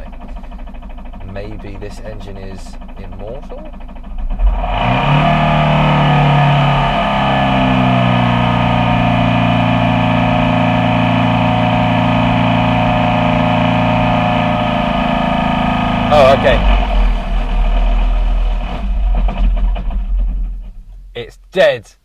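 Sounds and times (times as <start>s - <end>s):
car engine at high revs: 0.0s - 20.2s.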